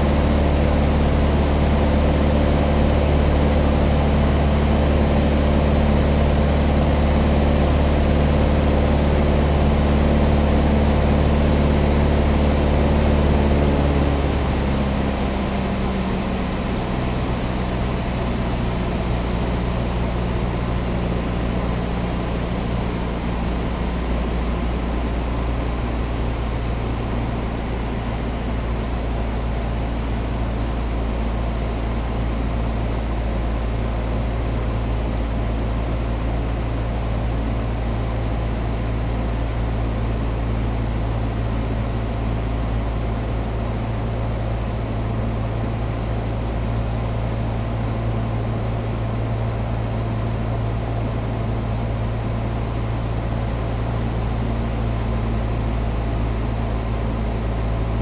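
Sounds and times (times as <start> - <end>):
propeller plane engine in cabin: 0.0 - 58.0.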